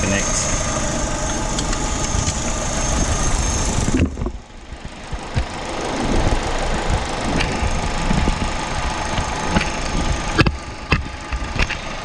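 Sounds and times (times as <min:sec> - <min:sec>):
car engine idling: 0:00.0 - 0:12.0
thin high whine: 0:00.0 - 0:12.0.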